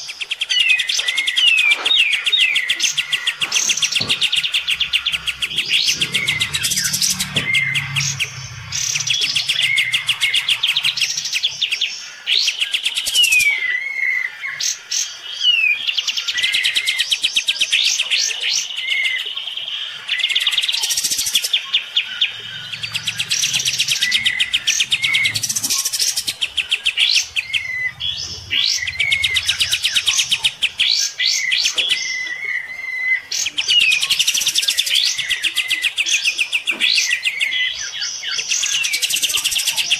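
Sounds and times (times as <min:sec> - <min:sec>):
bulbuls singing trills: 0:00.0 - 0:13.5, 0:19.0 - 0:39.9.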